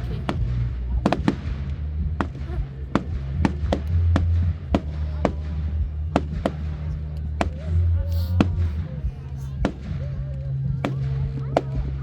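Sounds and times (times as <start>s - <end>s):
fireworks banging: 0.0s - 12.0s
music with heavy bass: 0.0s - 12.0s.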